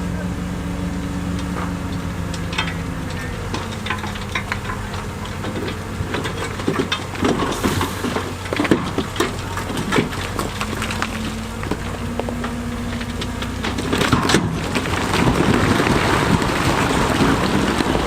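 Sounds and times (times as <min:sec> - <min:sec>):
diesel machinery running: 0:00.0 - 0:18.0
stones clattering against steel: 0:01.4 - 0:18.0.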